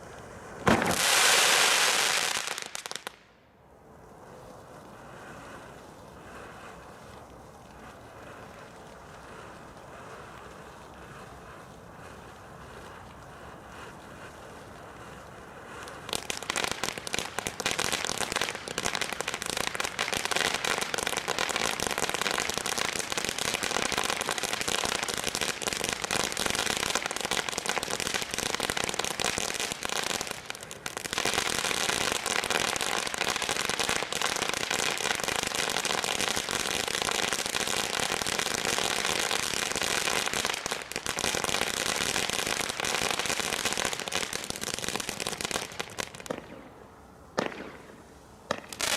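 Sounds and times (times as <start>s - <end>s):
firecrackers crackling: 0.0s - 3.4s, 4.0s - 48.9s.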